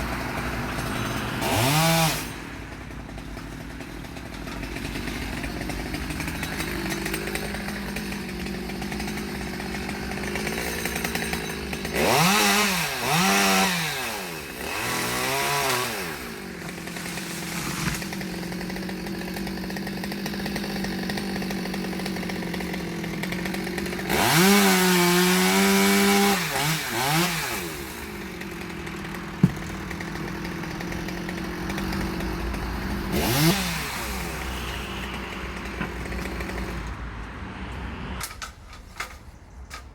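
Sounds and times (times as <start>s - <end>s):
chainsaw idling and revving: 0.0s - 38.3s.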